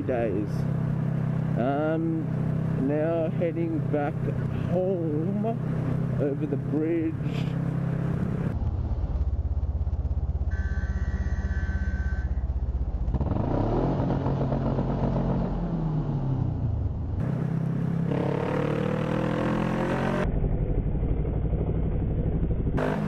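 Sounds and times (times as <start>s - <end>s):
motorcycle engine accelerating: 0.7s - 23.0s.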